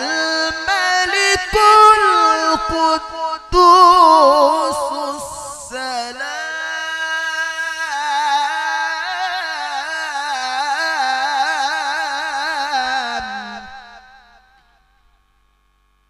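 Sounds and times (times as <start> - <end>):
man chanting recitation: 0.0 - 14.4.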